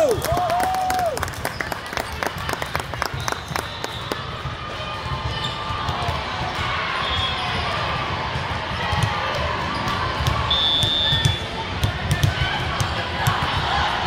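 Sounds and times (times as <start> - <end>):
murmur of spectators: 0.0 - 14.0.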